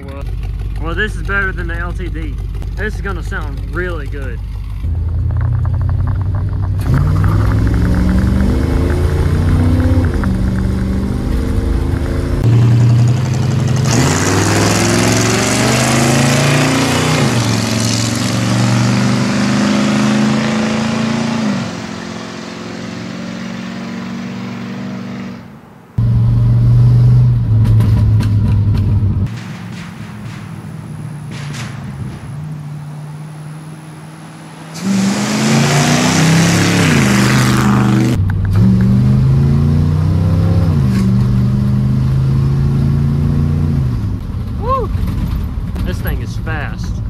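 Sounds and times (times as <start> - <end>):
deep exhaust rumble: 0.0 - 18.7, 26.0 - 35.0, 37.0 - 47.0
truck engine revving: 0.0 - 47.0
truck driving past: 0.2 - 44.2.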